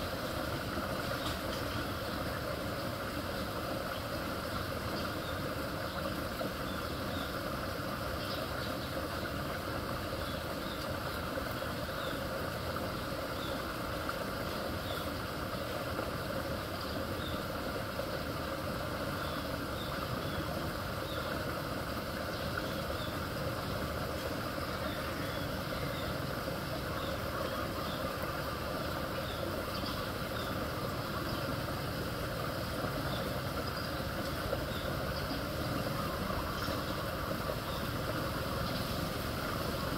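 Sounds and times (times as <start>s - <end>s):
water rushing through culvert pipe: 0.0s - 39.9s.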